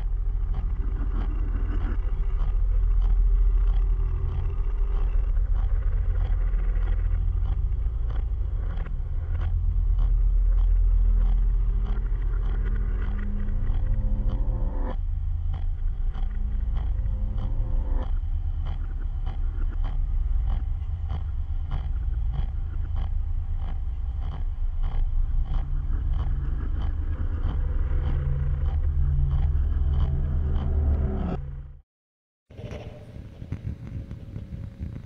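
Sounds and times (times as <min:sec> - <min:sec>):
low rumbling drone: 0:00.0 - 0:31.8, 0:32.5 - 0:35.0
steady low tones: 0:00.0 - 0:31.8.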